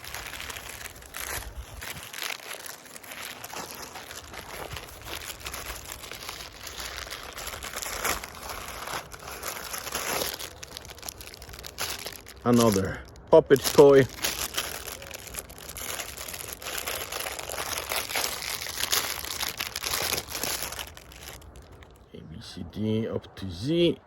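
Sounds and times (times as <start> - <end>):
packaging crinkling: 0.0 - 22.0.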